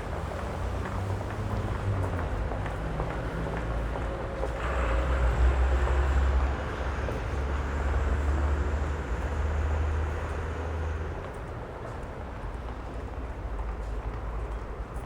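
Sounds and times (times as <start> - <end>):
vehicles passing with engine rumble: 0.0 - 15.0.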